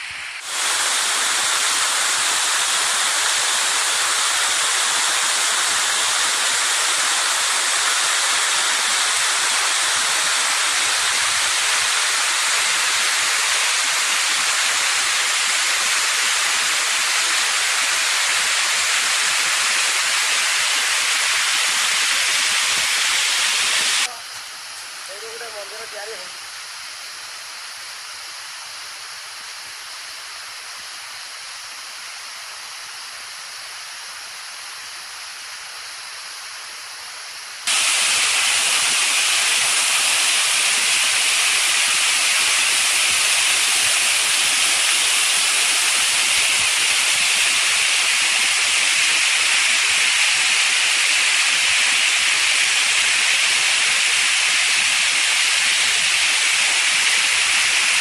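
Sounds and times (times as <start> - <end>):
waterfall rushing hiss: 0.0 - 58.0.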